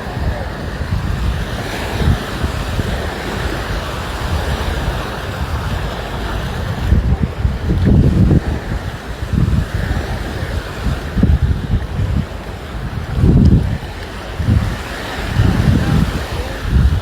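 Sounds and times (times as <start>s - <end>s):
sea surf washing on shore: 0.0s - 17.0s
wind buffeting microphone: 0.0s - 17.0s.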